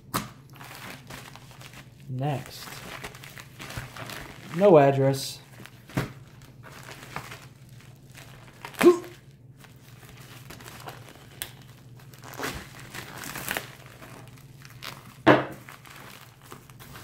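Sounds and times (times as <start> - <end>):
plastic mailer crinkling and tearing: 0.2 - 17.0.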